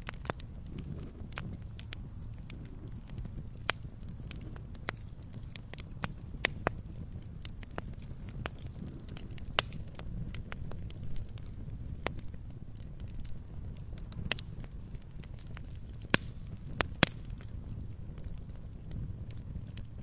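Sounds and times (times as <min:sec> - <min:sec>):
campfire flames rumbling: 0:00.0 - 0:20.0
fire crackling and popping: 0:00.0 - 0:20.0.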